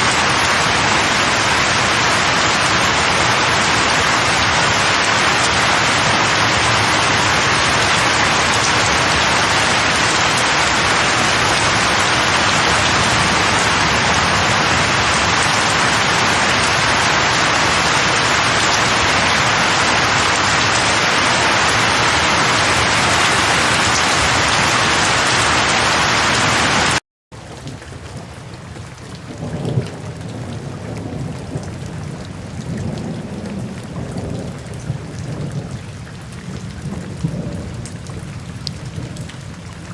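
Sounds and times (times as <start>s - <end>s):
loud rain: 0.0s - 39.9s.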